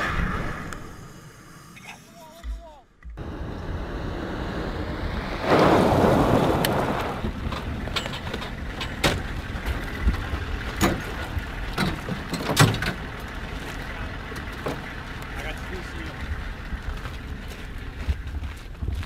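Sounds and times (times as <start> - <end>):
vehicle driving on gravel: 3.2 - 19.0.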